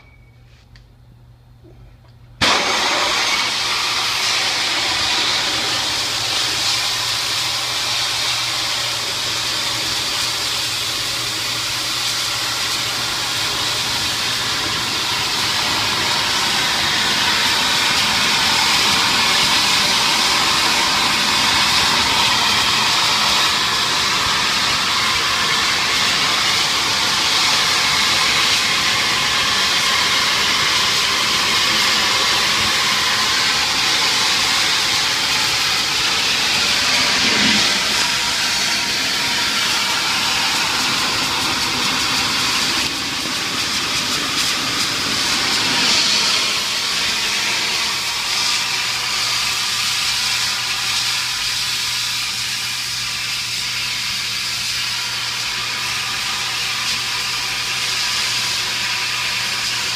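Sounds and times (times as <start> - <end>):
pressure washer spraying water: 2.4 - 59.9.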